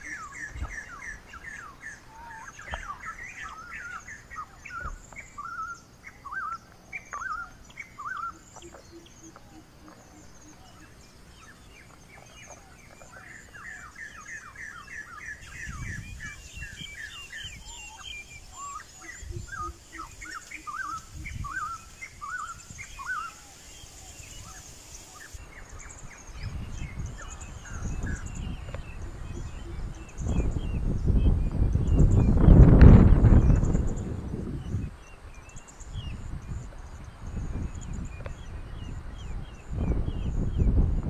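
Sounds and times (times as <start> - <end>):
birds chirping: 0.0 - 41.0
wind buffeting microphone: 0.0 - 41.0.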